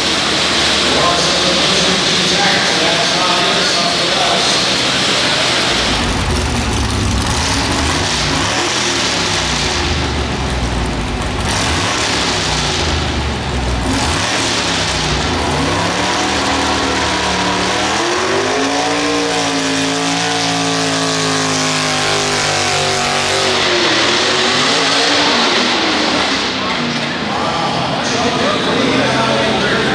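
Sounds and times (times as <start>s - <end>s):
tractor engine revving: 0.0s - 26.9s.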